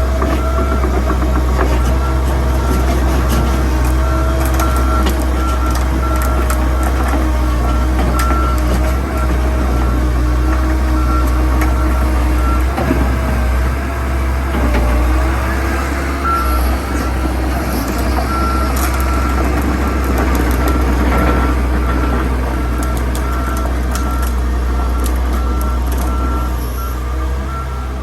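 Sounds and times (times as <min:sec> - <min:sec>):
excavator diesel engine droning: 0:00.0 - 0:28.0.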